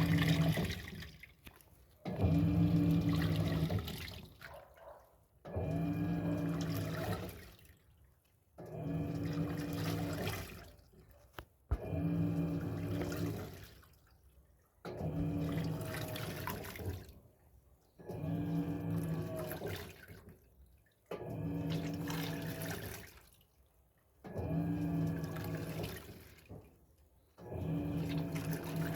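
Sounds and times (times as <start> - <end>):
washing machine motor hum: 0.0 - 1.4, 2.0 - 7.8, 8.5 - 10.9, 11.7 - 23.3, 24.1 - 28.9
water sloshing: 0.0 - 28.9.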